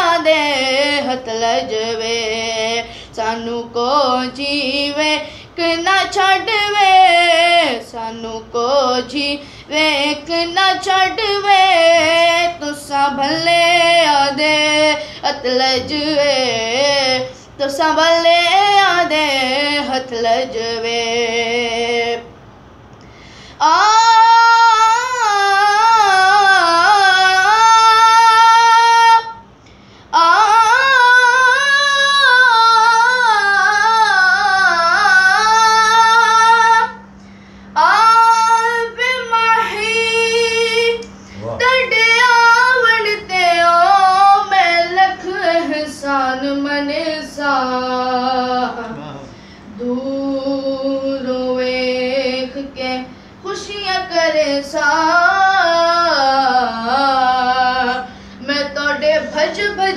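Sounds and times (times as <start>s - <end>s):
boy singing unaccompanied: 0.0s - 22.3s, 23.6s - 29.4s, 30.1s - 37.0s, 37.8s - 59.9s.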